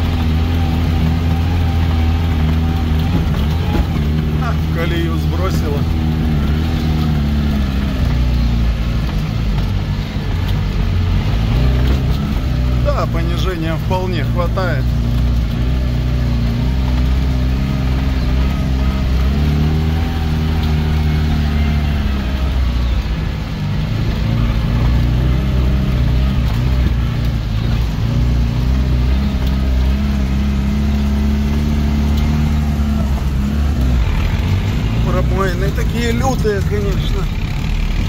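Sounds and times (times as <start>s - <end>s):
off-road vehicle engine revving: 0.0s - 38.0s.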